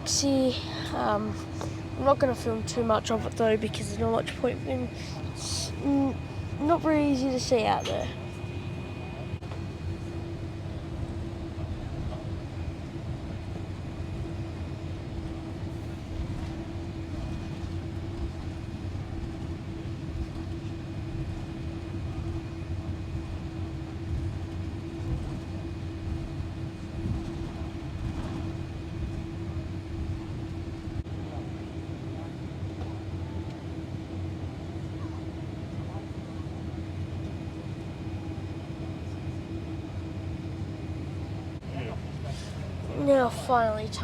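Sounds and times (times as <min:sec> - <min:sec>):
airplane cabin rumble: 0:00.0 - 0:44.0
droning engine and air hum: 0:00.0 - 0:44.0.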